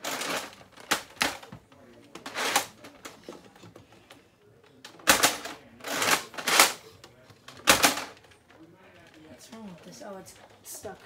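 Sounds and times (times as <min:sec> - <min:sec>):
sharp plastic clacks: 0:00.0 - 0:11.0.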